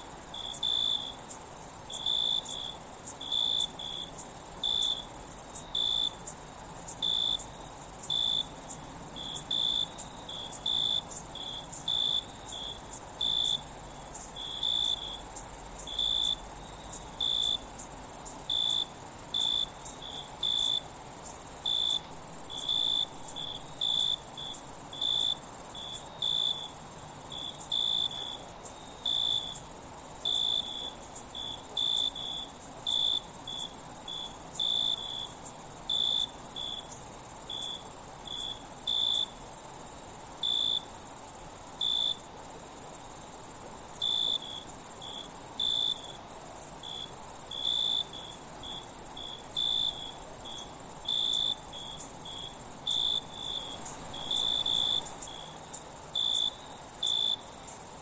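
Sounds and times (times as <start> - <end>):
crickets trilling: 0.0 - 58.0
low-pitched cricket chirping: 0.0 - 58.0.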